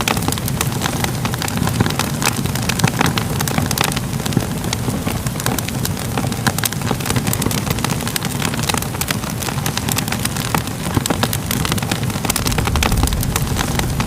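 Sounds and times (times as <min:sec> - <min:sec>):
fire crackling: 0:00.0 - 0:14.0.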